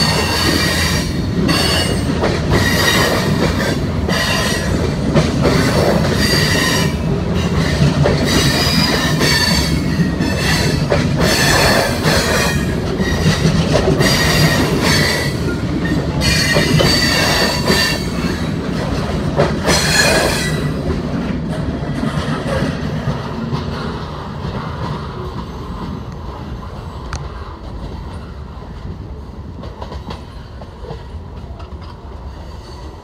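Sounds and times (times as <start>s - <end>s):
freight train rolling past: 0.0s - 33.0s.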